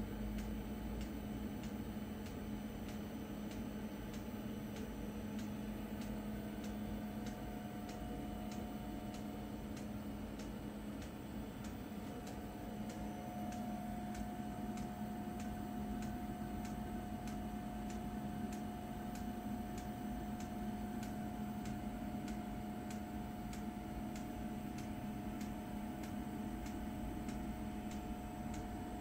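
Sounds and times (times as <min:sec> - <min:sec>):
electrical equipment humming: 0:00.0 - 0:29.0
light ticking: 0:00.3 - 0:29.0.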